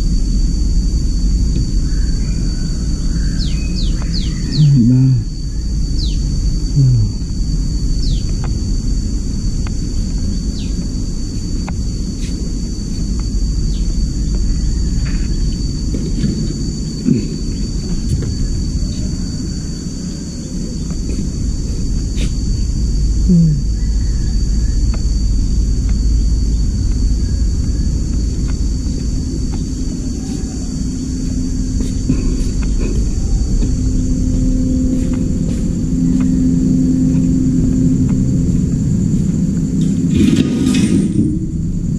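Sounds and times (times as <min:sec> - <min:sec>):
faint high whine: 0:00.0 - 0:41.9
low outdoor rumble: 0:00.0 - 0:41.9
low steady hum: 0:00.0 - 0:41.9.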